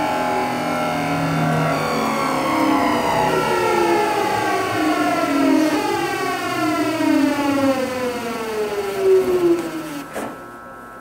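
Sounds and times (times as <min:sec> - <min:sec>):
train inverter whine: 0:00.0 - 0:11.0.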